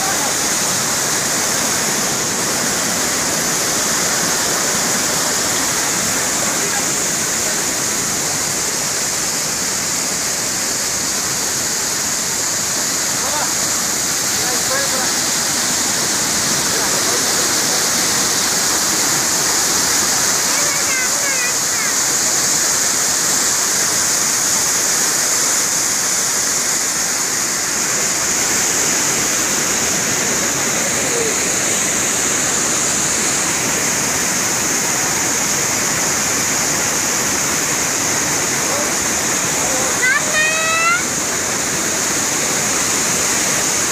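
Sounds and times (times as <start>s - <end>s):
mountain stream rushing: 0.0s - 43.9s
waterfall roaring: 0.0s - 43.9s.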